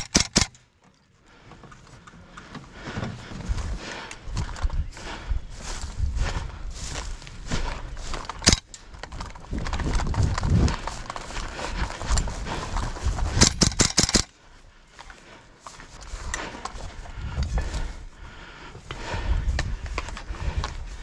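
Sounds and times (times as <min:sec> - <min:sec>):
hard breathing: 0:01.0 - 0:21.0
heavy footsteps: 0:01.3 - 0:21.0.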